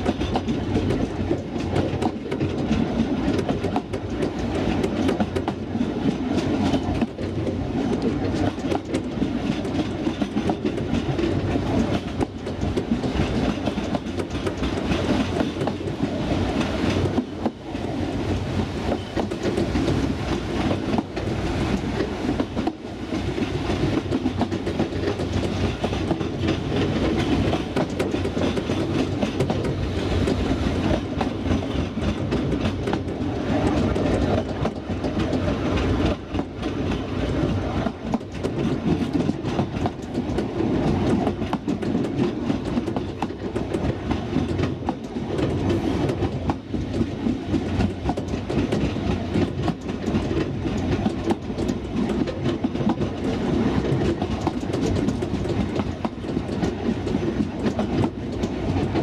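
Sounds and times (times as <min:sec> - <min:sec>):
train rumble: 0:00.0 - 0:59.0
train wheels clattering over joints: 0:00.0 - 0:59.0.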